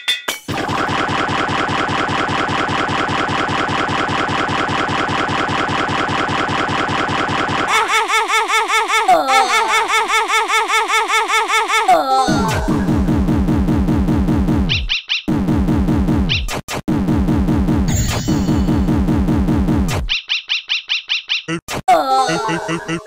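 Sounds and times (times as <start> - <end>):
fast repeating sound sample: 0.5 - 11.6, 12.4 - 20.1.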